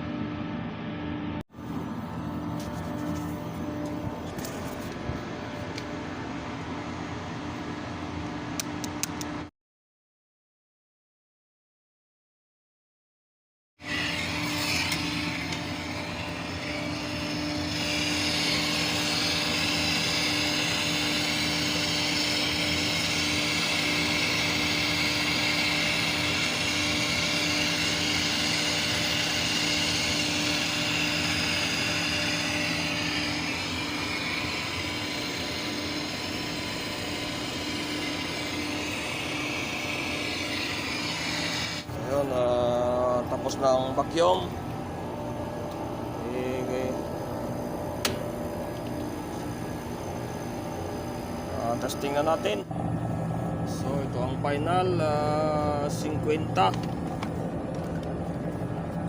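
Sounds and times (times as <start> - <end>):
vacuum pump running: 0.0 - 9.5, 13.8 - 59.0.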